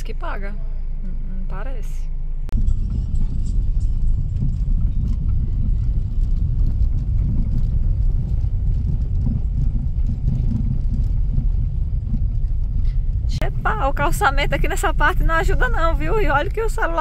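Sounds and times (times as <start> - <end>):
car tyres rolling over cobblestones: 2.6 - 17.0.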